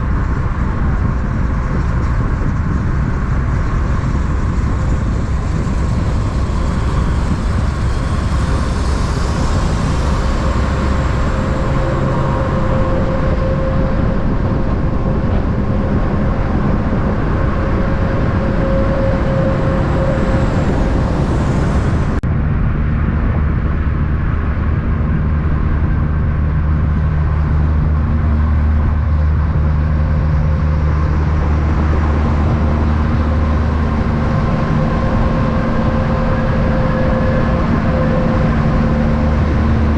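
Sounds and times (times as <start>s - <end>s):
heavy vehicle engine droning: 0.0s - 39.9s
traffic noise: 0.0s - 39.9s.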